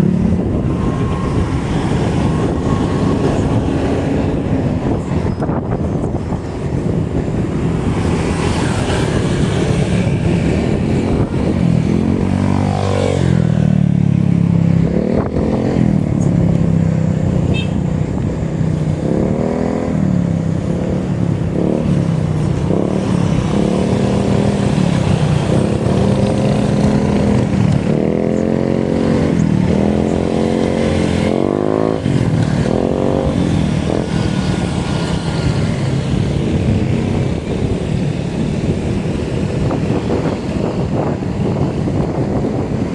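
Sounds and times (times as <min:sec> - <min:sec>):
bicycle road rumble: 0:00.0 - 0:42.9
wind: 0:00.0 - 0:42.9.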